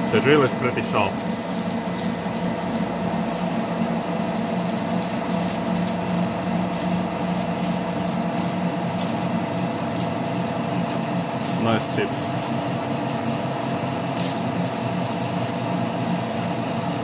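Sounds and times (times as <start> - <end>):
lathe machine hum: 0.0 - 17.0.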